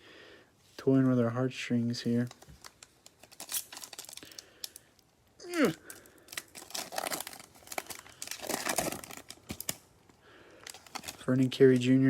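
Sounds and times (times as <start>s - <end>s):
wrappers crinkling and tearing: 2.1s - 11.9s.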